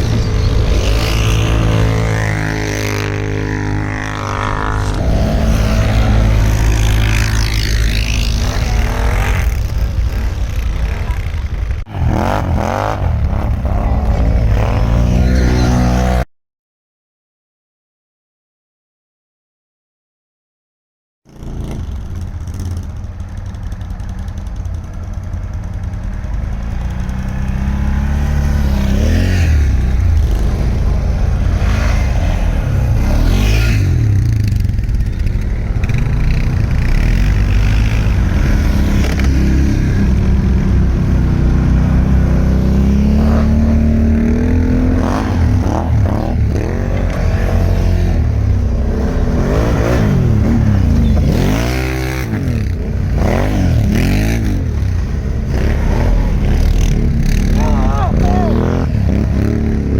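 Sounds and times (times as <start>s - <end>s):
atv engine revving: 0.0s - 16.3s, 21.3s - 59.9s.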